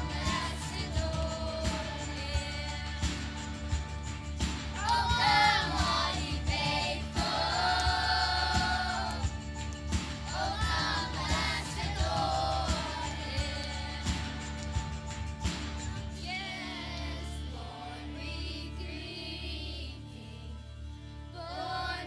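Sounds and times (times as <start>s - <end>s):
choir singing: 0.0s - 14.9s, 16.1s - 20.6s, 21.3s - 22.0s
musical accompaniment with a beat: 0.0s - 18.0s.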